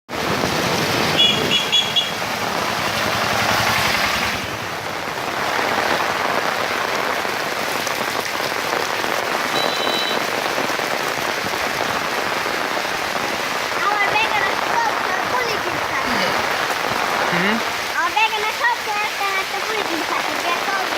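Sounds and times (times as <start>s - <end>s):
steady rain falling: 0.1s - 20.9s.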